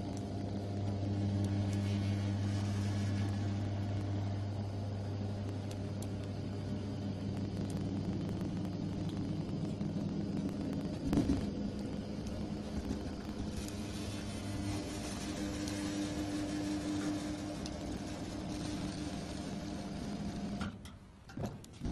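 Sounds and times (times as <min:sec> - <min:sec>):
platform lift motor humming: 0:00.0 - 0:20.9.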